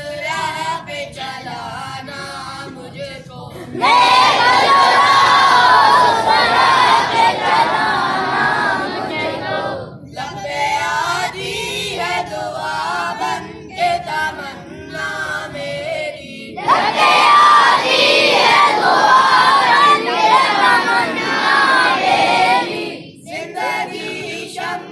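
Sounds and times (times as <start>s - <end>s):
boys chanting a prayer together: 0.0s - 24.9s.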